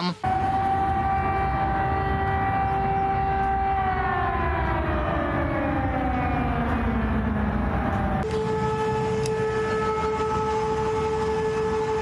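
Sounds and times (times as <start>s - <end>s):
air-raid siren wailing: 0.0s - 12.0s.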